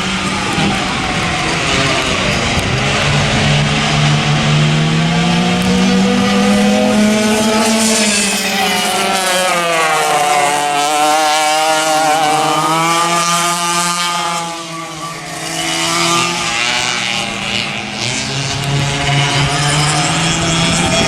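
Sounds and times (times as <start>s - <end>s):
racing kart engines: 0.0s - 21.0s.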